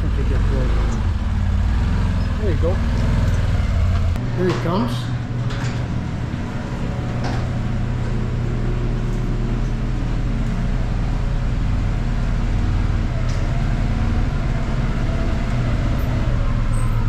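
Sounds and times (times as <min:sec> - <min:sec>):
utility vehicle engine running: 0:00.0 - 0:17.0.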